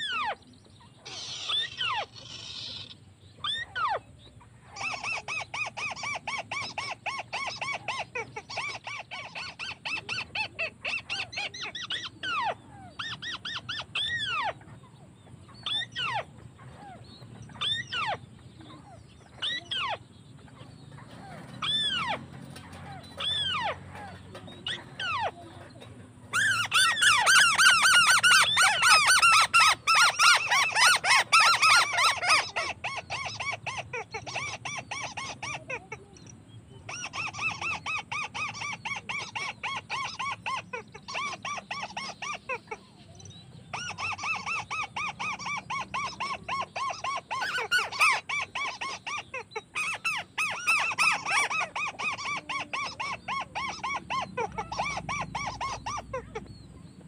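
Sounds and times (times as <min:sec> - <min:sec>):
crake chattering trills: 0:00.0 - 0:57.0
crake falling calls: 0:01.0 - 0:36.0, 0:36.9 - 0:57.0.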